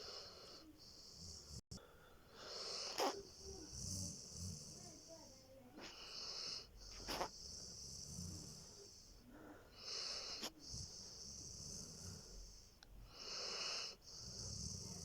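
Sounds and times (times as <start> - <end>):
dog snoring: 0.0 - 1.7, 2.4 - 15.0.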